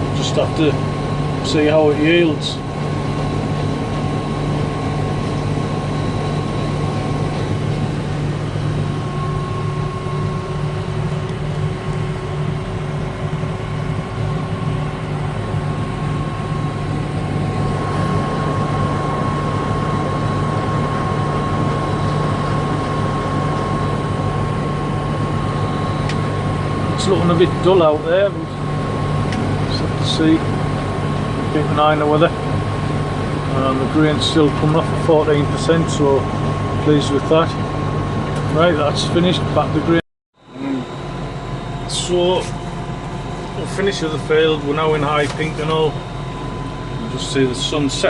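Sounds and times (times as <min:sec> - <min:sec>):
farm machinery engine running: 0:00.0 - 0:48.0
steady high whine: 0:00.0 - 0:48.0.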